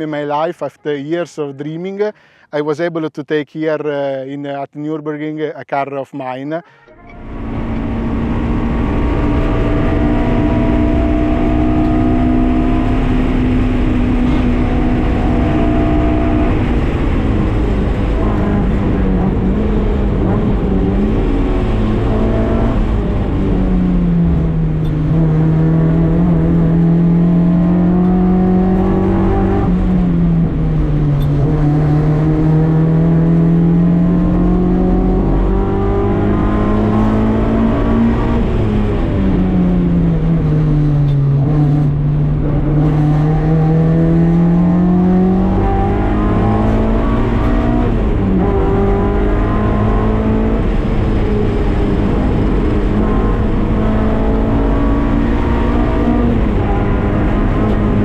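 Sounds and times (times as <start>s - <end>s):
road and wind noise: 0.0s - 2.9s, 3.7s - 58.0s
car engine running hard: 7.2s - 58.0s.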